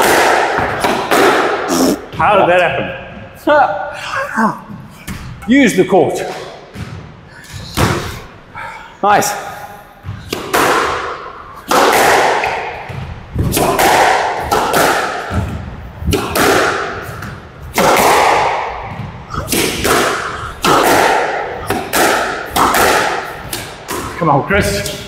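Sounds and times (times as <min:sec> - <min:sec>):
squash ball hitting rackets and walls: 0:00.0 - 0:03.3, 0:04.7 - 0:05.5, 0:06.2 - 0:08.4, 0:09.9 - 0:25.0.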